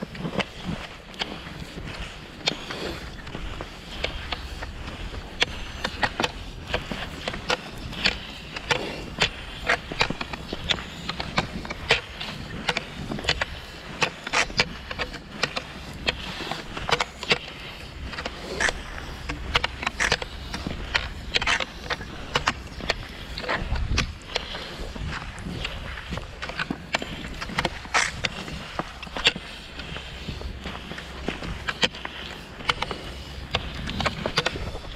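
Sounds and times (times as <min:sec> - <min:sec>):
ski poles clicking: 0:00.0 - 0:34.9
skis sliding over snow: 0:00.0 - 0:34.9.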